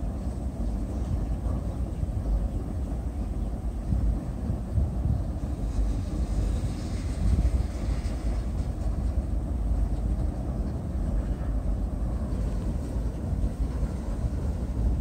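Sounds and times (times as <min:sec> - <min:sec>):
freight train rumbling over bridge: 0:00.0 - 0:15.0.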